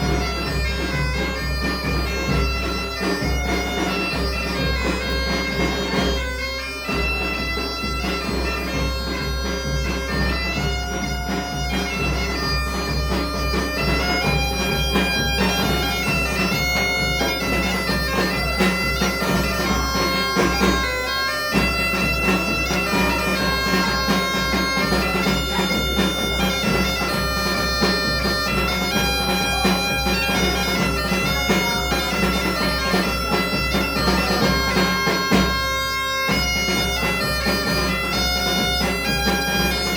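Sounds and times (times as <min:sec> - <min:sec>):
bagpipe playing tune: 0:00.0 - 0:39.9
drum beat: 0:00.0 - 0:39.9.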